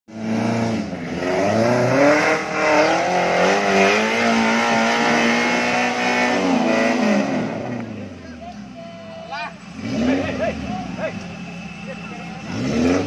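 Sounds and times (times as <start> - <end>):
off-road vehicle engine revving: 0.1 - 13.0.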